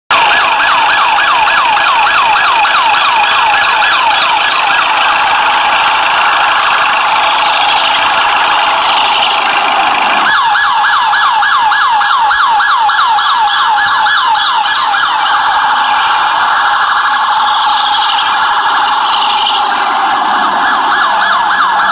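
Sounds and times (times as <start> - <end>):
toy electronic siren yelping: 0.1 - 21.9.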